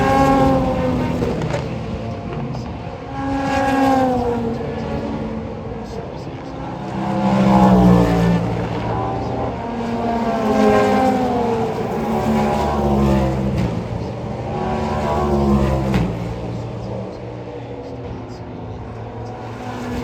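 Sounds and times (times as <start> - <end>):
race cars passing at speed: 0.0 - 20.0.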